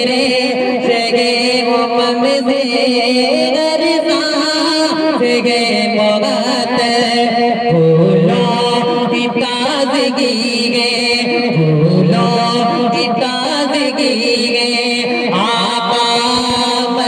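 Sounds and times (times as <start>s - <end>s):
man singing over loudspeaker: 0.0s - 17.0s.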